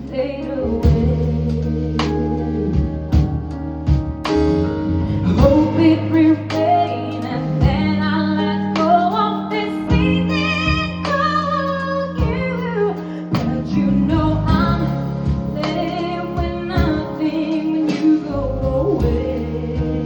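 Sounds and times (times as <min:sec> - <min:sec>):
woman singing: 0:00.0 - 0:02.9, 0:05.3 - 0:20.0
guitar: 0:00.0 - 0:20.0
sustained bass notes: 0:00.0 - 0:20.0.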